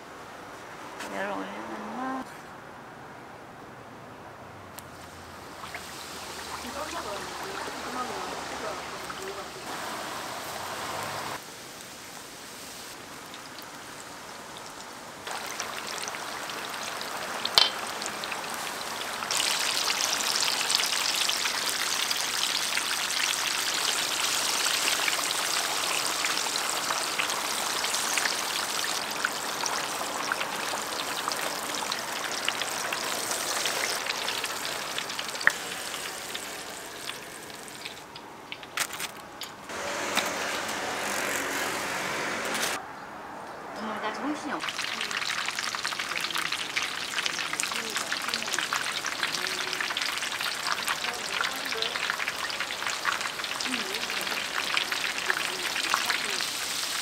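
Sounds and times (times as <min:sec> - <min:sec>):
deep-frying sizzle: 0:04.8 - 0:41.3, 0:44.6 - 0:57.0.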